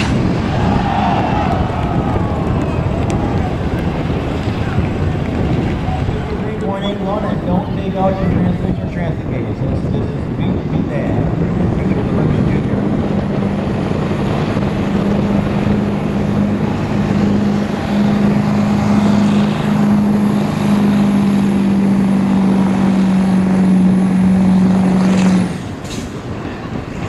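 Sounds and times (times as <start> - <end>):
diesel truck engine at high revs: 0.0 - 27.0.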